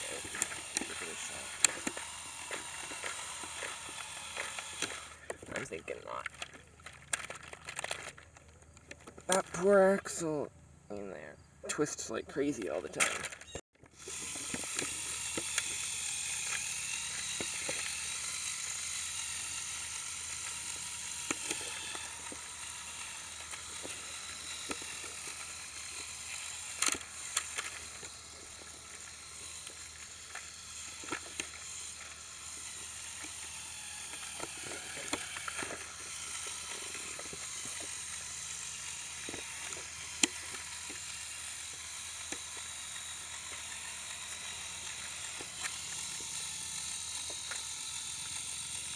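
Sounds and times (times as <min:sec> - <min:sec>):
electric motors whining: 0:00.0 - 0:48.9.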